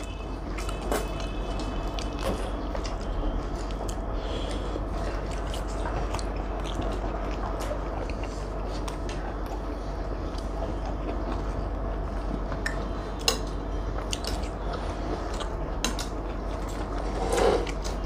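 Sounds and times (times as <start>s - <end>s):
close chewing and biting: 0.0s - 18.0s
low hum: 0.0s - 18.0s.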